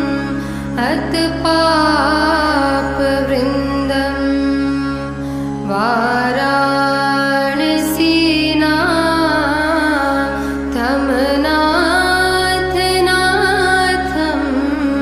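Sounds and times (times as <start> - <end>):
low drone: 0.0 - 15.0
slow gliding melody: 0.0 - 15.0.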